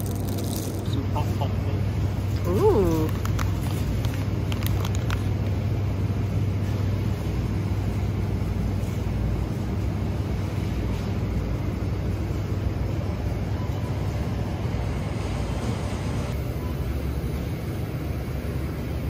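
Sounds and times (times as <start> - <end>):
supermarket background hum: 0.0 - 19.0.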